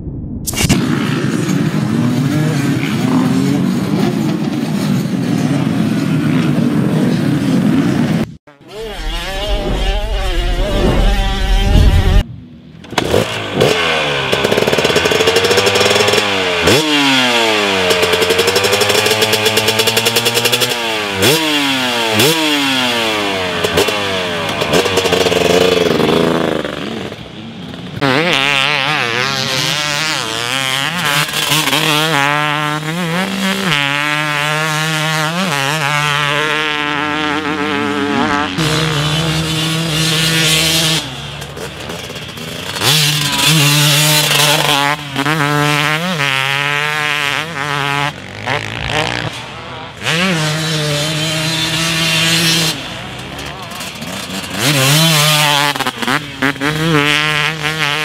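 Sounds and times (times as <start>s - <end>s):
motocross bike engine revving: 0.5s - 58.0s.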